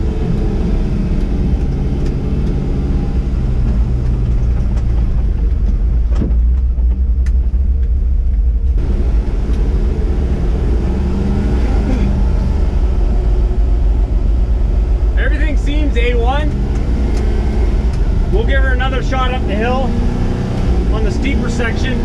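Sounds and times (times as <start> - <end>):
truck engine rumbling under load: 0.0 - 22.0.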